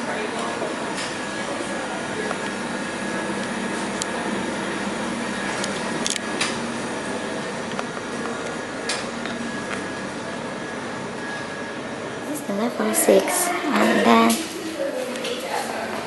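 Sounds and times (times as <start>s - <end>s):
machine hum and hiss: 0.0s - 14.8s.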